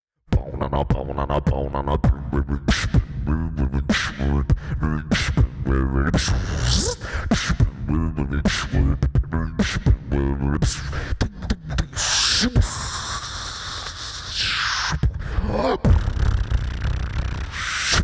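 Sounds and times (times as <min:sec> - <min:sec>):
beatboxing into a microphone: 0:00.3 - 0:18.0.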